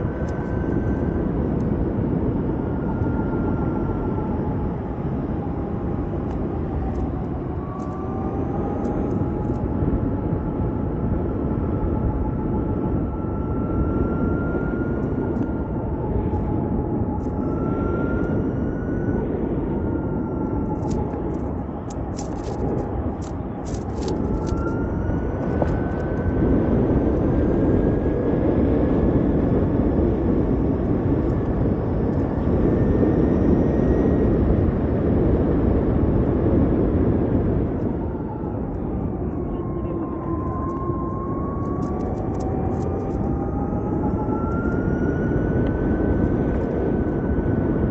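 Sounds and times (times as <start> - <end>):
electric motor whine: 0.0 - 47.9
wind and road noise: 0.0 - 47.9.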